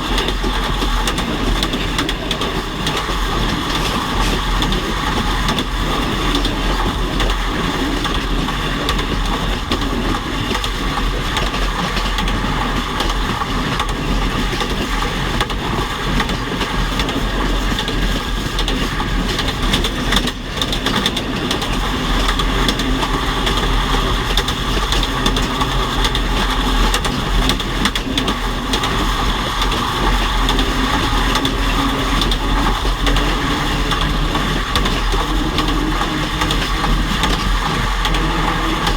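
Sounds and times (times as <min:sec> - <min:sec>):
train wheels rolling on track: 0:00.0 - 0:38.9.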